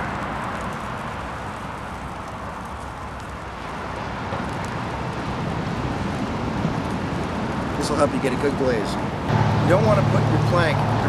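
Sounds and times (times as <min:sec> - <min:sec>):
outdoor low rumble with hiss: 0:00.0 - 0:11.0.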